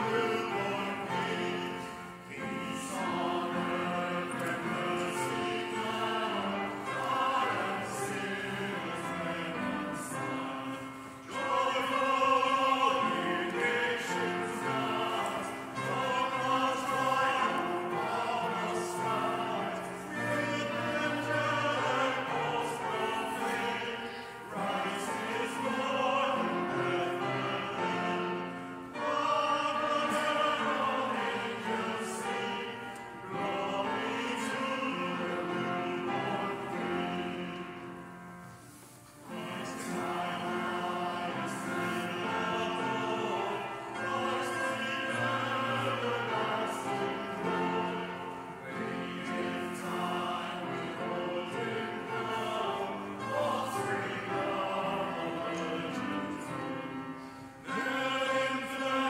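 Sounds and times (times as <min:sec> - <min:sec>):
keyboard accompaniment: 0:00.0 - 0:59.0.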